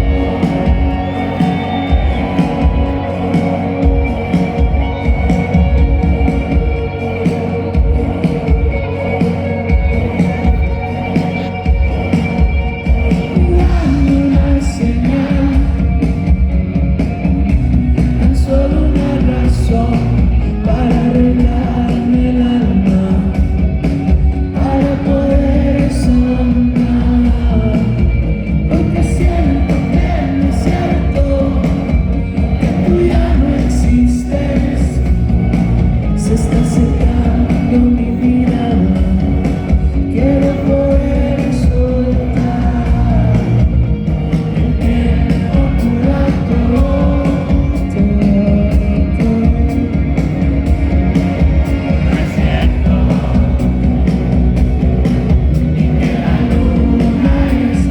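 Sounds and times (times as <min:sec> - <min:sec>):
person singing: 0:00.0 - 0:16.2, 0:18.2 - 0:23.7, 0:24.4 - 0:35.4, 0:36.0 - 0:50.3, 0:55.8 - 0:57.9
bass guitar: 0:00.0 - 0:57.9
drums: 0:00.0 - 0:57.9
electric guitars: 0:00.0 - 0:57.9.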